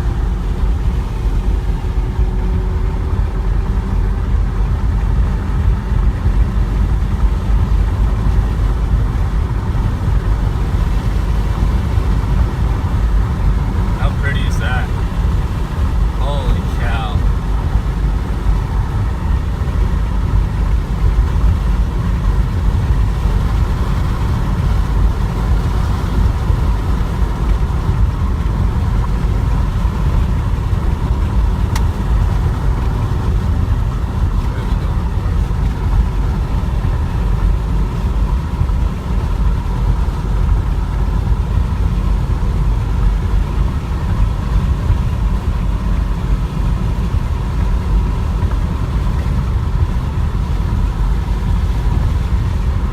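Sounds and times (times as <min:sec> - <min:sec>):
vehicle driving rumble: 0:00.0 - 0:52.9.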